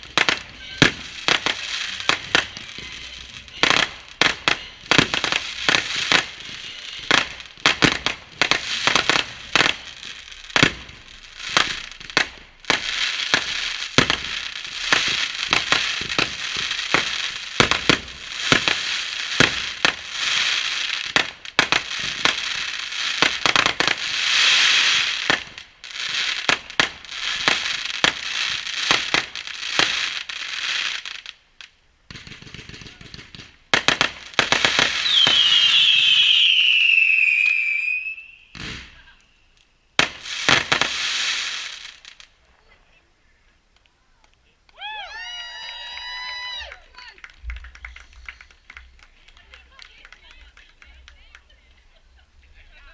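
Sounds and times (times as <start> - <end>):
fireworks bangs: 0.0 - 31.4, 32.1 - 42.8, 44.7 - 52.9
fireworks crackling: 0.0 - 52.9.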